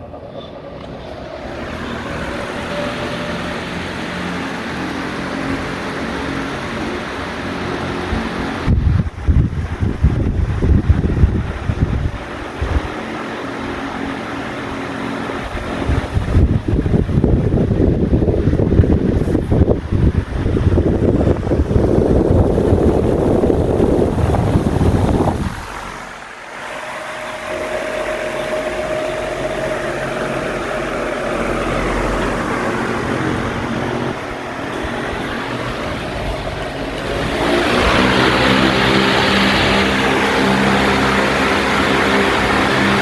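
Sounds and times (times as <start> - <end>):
airflow buffeting microphone: 0.0 - 43.0
fan motor hum and blade whoosh: 0.0 - 43.0.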